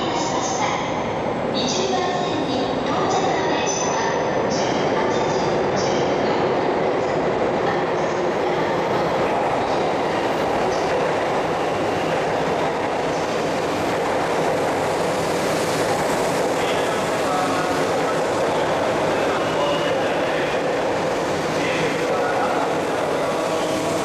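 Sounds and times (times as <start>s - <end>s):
train wheels on rail: 0.2s - 24.0s.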